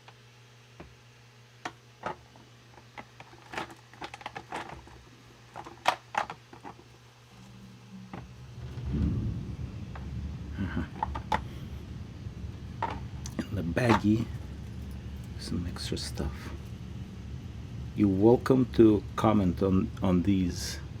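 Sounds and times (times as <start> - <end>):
low rustling of handling: 2.8 - 20.8.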